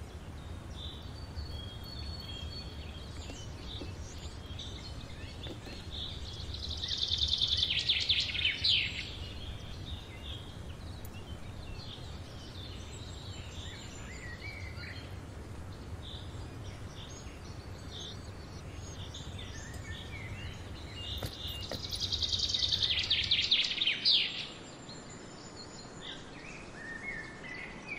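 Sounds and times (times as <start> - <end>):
low outdoor rumble: 0.0 - 23.5
small birds chirping: 0.0 - 27.9.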